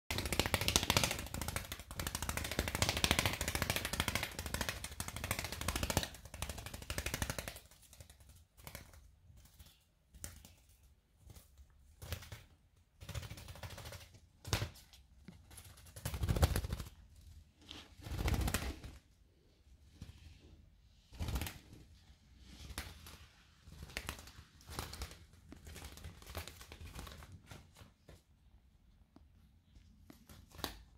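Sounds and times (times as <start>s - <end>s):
bird wings flapping on tile floor: 0.1s - 19.1s, 21.1s - 28.3s, 29.8s - 30.9s.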